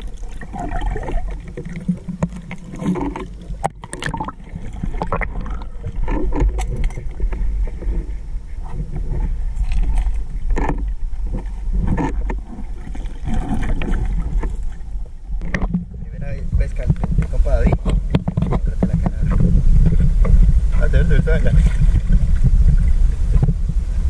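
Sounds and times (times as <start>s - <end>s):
water splashes and knocks: 0.0s - 8.1s, 8.7s - 23.6s
water sloshing and gurgling: 0.0s - 24.0s.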